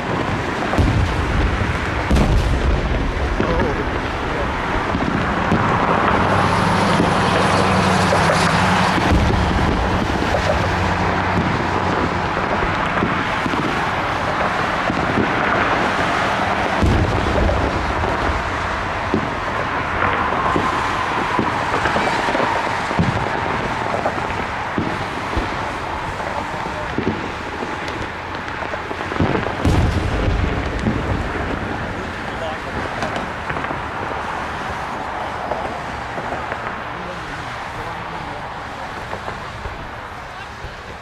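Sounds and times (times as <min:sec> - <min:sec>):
background noise rush: 0:00.0 - 0:41.0
fireworks popping and booming: 0:00.0 - 0:41.0.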